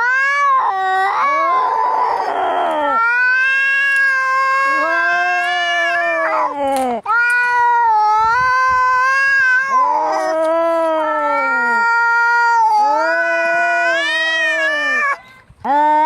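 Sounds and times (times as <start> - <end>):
cats fighting and yowling: 0.0 - 15.2.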